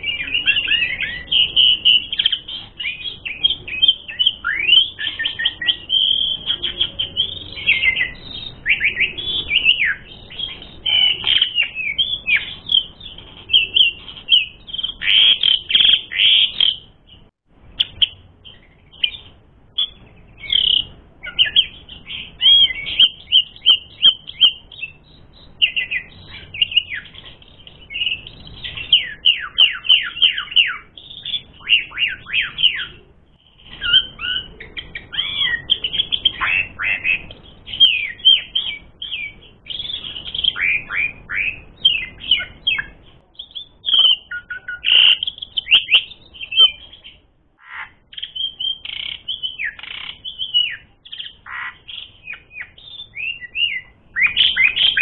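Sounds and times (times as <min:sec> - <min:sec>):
starling singing: 0:00.0 - 0:55.0.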